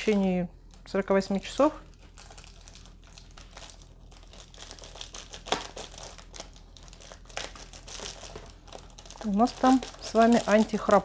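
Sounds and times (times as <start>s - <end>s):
packaging crinkling and rustling: 0.0s - 11.0s
sharp packaging crackle: 0.0s - 11.0s.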